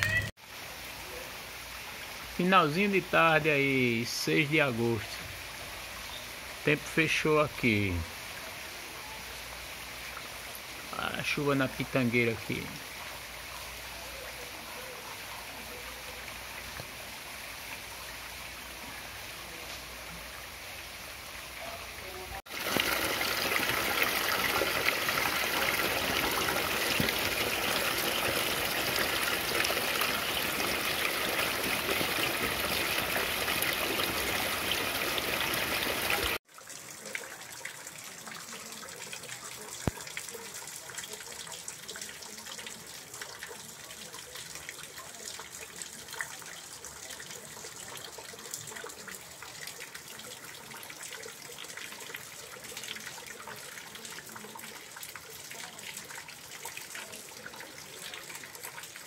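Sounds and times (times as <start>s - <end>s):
rainwater rushing down concrete channel: 0.0s - 59.0s
rain falling on leaves: 0.2s - 14.7s, 15.5s - 59.0s.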